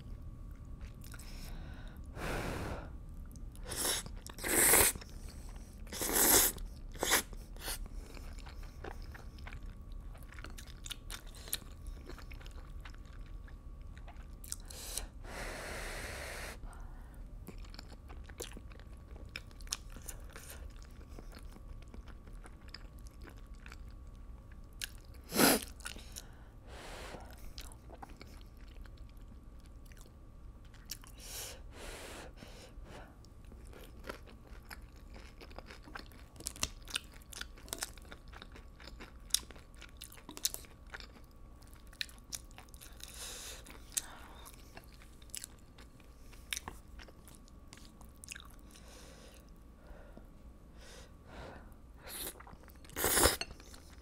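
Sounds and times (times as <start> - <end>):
person chewing food: 0.0 - 2.1, 3.2 - 15.2, 17.4 - 26.4, 27.2 - 31.2, 33.1 - 51.0, 51.6 - 54.0.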